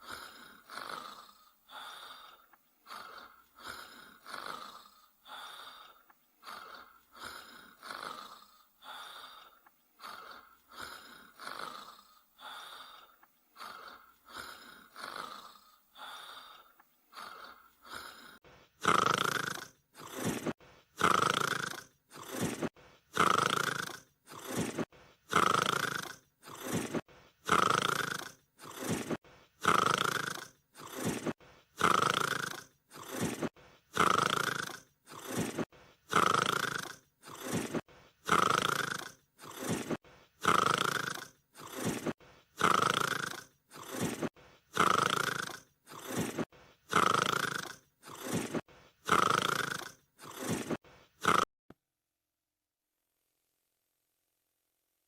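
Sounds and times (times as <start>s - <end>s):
dog snoring: 0.0s - 51.5s.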